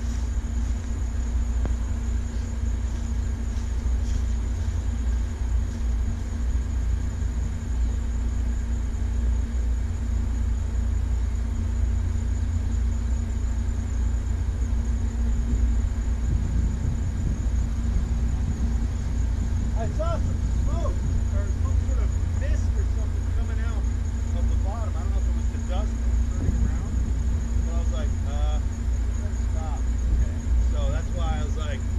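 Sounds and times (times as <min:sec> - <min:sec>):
biplane engine idling: 0:00.0 - 0:31.9
heavy low rumble: 0:00.0 - 0:31.9.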